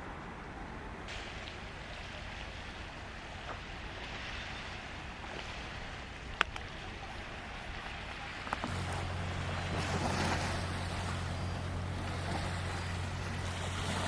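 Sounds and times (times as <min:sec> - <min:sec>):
water: 0:00.0 - 0:14.0
wind: 0:00.0 - 0:14.0.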